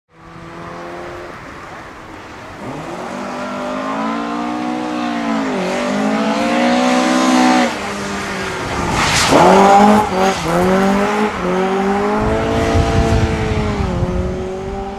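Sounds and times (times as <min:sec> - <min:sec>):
rally car engine revving: 0:02.6 - 0:14.9.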